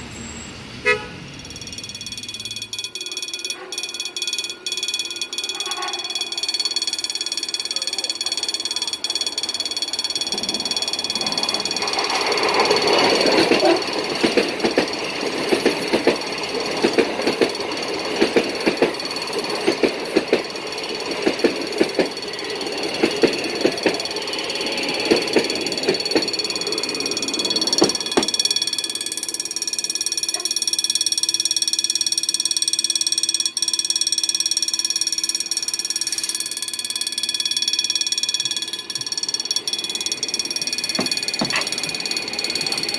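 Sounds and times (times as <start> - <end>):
level crossing alarm tone: 0.8 - 42.9
train wheels clattering over rails: 1.3 - 31.2, 36.1 - 42.9.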